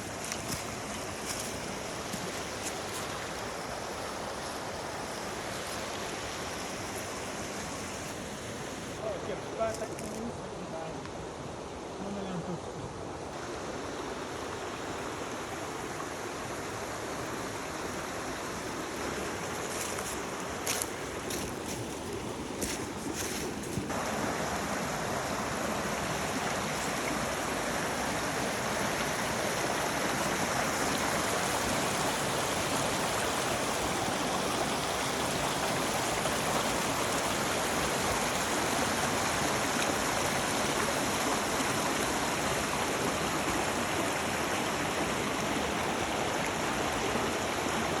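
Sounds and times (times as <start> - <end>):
rushing flowing water: 0.0 - 48.0.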